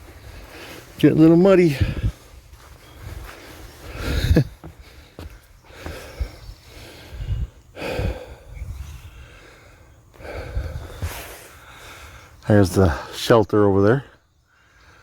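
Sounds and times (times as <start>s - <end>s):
man breathing hard: 1.7s - 13.2s, 14.4s - 15.0s.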